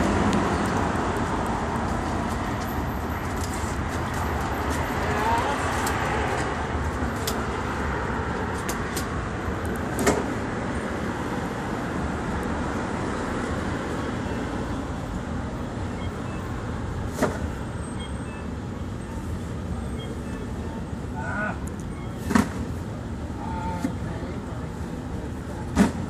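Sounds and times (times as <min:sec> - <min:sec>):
city street traffic: 0:00.0 - 0:26.0.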